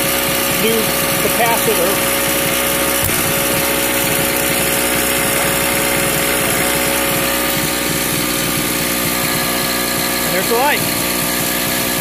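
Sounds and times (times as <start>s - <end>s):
portable generator engine running: 0.0s - 12.0s.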